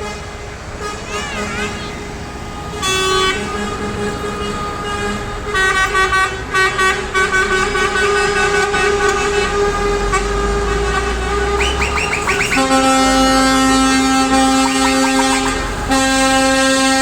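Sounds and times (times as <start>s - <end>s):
low truck horn: 0.0s - 17.0s
short high horn blasts: 0.0s - 17.0s
truck engines rumbling: 0.0s - 17.0s.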